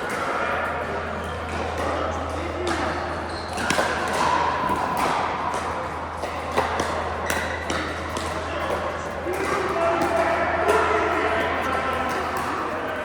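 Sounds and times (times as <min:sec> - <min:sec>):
balls bouncing: 0:00.0 - 0:13.0.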